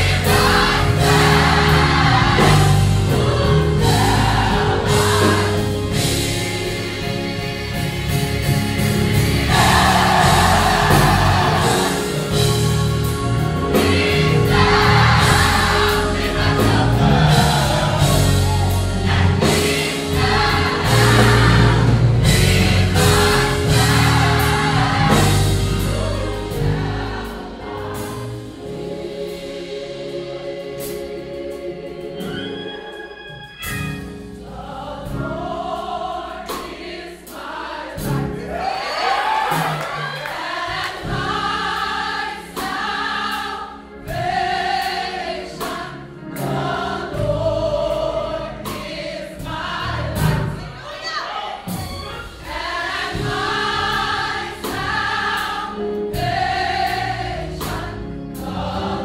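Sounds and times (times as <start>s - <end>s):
band accompaniment: 0.0s - 59.0s
gospel choir singing: 0.0s - 59.0s.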